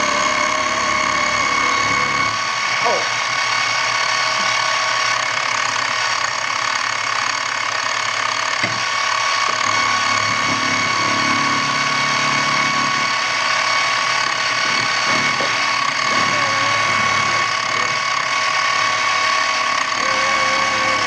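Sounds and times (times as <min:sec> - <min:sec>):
milling machine whining: 0:00.0 - 0:21.0.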